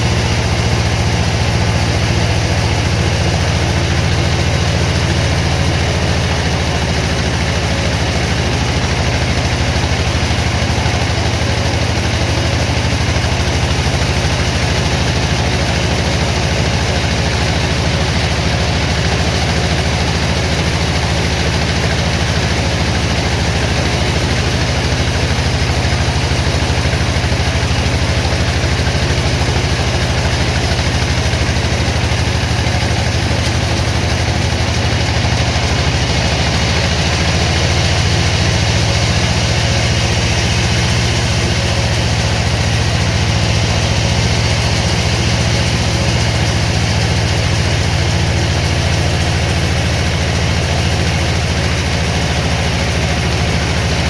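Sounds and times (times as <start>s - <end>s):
sawmill machinery droning: 0.0s - 54.0s.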